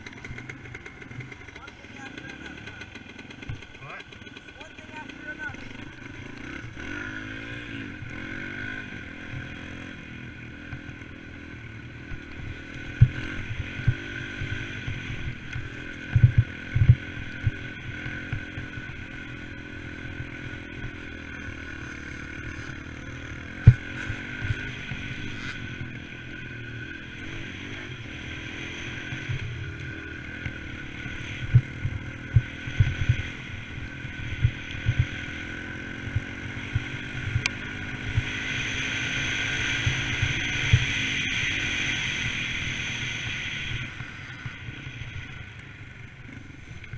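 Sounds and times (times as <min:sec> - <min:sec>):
dirt bike engine revving: 0:00.0 - 0:46.8.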